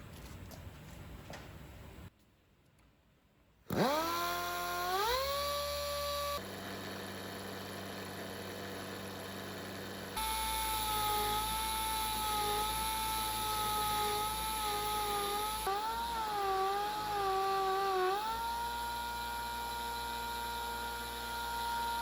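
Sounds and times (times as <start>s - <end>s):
power tool motor whine: 3.7s - 22.0s.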